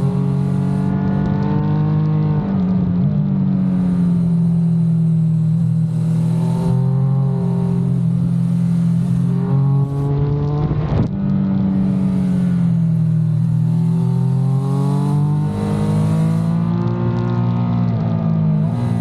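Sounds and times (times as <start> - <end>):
exhaust crackle: 0.0 - 19.0
motorcycle engine accelerating: 0.0 - 19.0.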